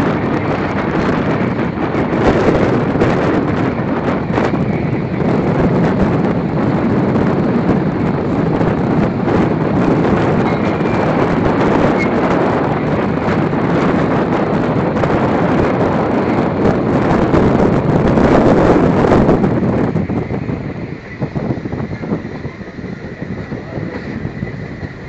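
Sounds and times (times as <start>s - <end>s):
train running: 0.0s - 25.0s
wind rushing on microphone: 0.0s - 25.0s.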